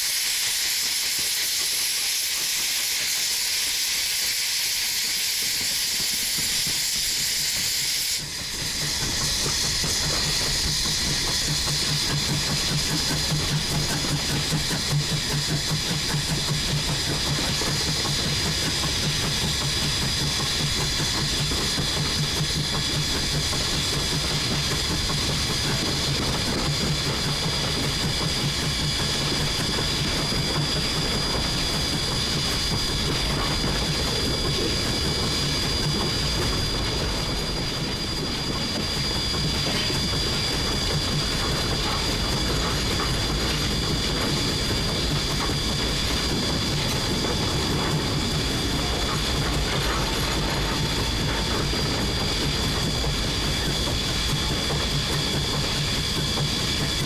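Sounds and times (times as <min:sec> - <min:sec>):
steam hissing loudly: 0:00.0 - 0:57.0
steam locomotive running: 0:00.0 - 0:57.0.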